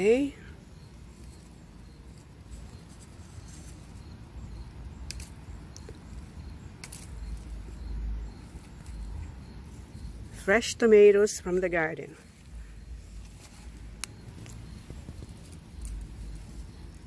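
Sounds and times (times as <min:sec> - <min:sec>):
plant leaves rustling: 0:00.0 - 0:17.0.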